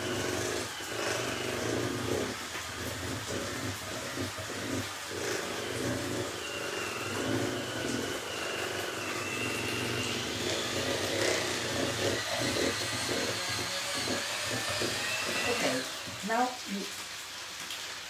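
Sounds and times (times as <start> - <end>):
beaters in metal bowl: 0.0 - 16.5
electric hand mixer whining: 0.0 - 16.5.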